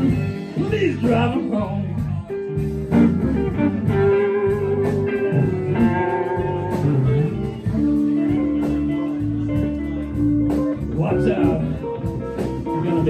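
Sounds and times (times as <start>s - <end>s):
person singing: 0.0s - 10.9s
blues guitar plucked notes: 0.0s - 13.0s.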